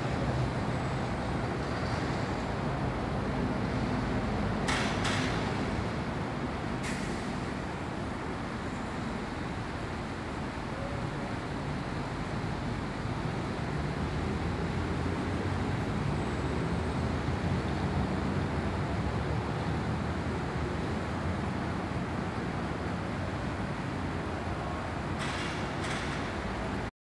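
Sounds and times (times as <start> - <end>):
freight train rumbling: 0.0 - 26.9.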